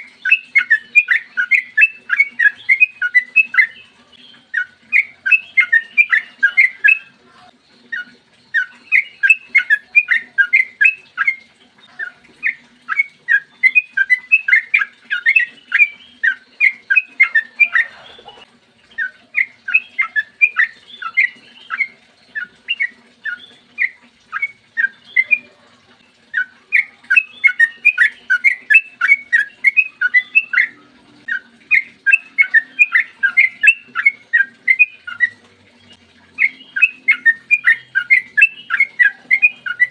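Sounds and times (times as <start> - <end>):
bird singing bubbly notes: 0.0 - 39.9.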